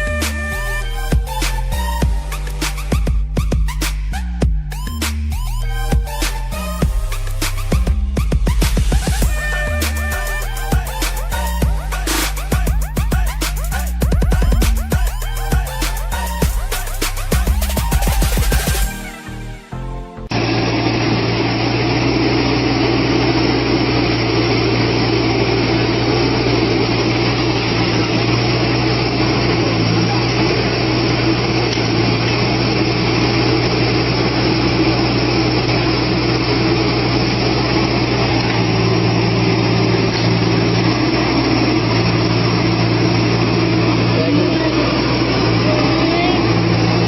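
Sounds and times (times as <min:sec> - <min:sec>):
machine engine humming: 0:05.6 - 0:47.0.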